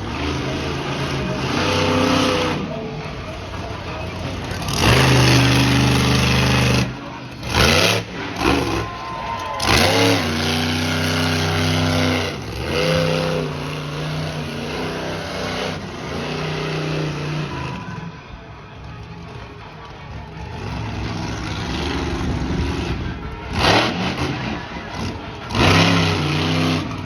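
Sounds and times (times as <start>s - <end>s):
monster truck engine revving: 0.0s - 18.2s, 20.1s - 27.0s.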